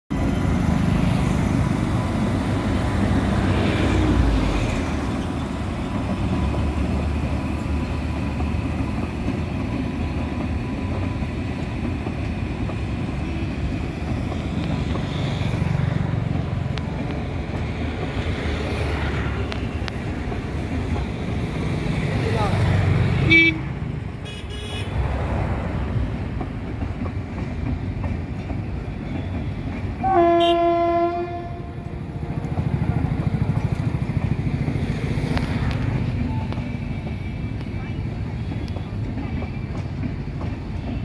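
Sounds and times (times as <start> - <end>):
train wheels rumbling on rails: 0.1 - 41.0.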